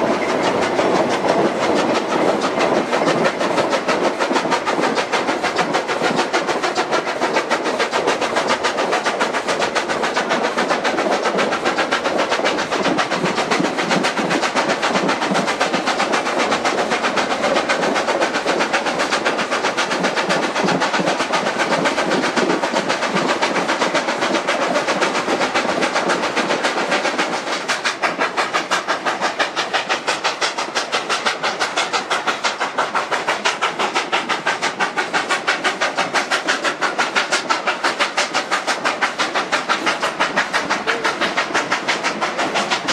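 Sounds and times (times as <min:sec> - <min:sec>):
steam locomotive exhaust beats: 0:00.0 - 0:42.9.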